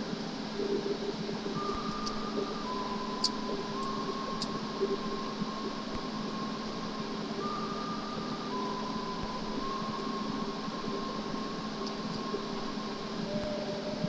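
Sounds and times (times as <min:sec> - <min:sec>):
faint thin whine: 0:00.0 - 0:14.0
mechanical hum and hiss: 0:00.0 - 0:14.0.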